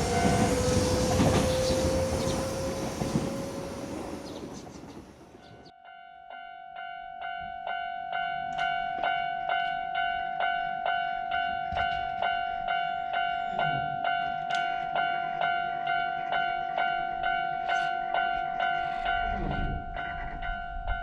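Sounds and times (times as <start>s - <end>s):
railroad crossing bell ringing: 0.0s - 4.4s, 5.4s - 21.0s
train low rumble: 0.0s - 5.7s, 7.7s - 21.0s.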